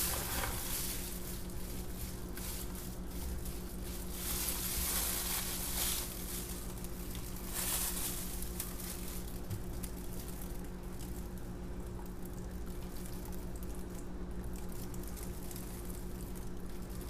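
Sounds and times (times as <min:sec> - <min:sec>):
plastic gloves crinkling: 0:00.0 - 0:17.0
steady low hum: 0:00.0 - 0:17.0.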